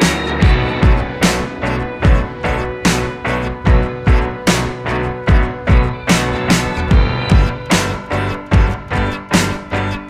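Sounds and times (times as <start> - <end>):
music with driving drum beat: 0.0 - 10.0.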